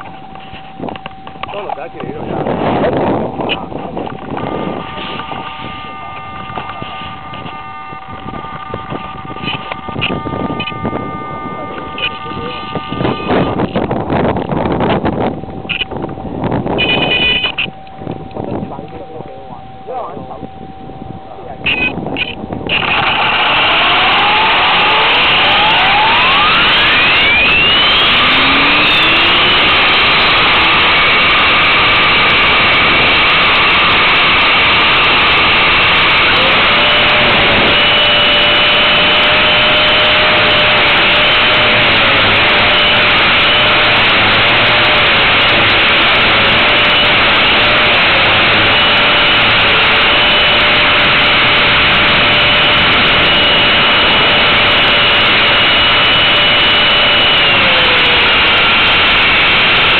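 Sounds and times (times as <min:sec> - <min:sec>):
rc helicopter motor and rotor whine: 0:00.0 - 0:17.8, 0:21.7 - 0:59.9.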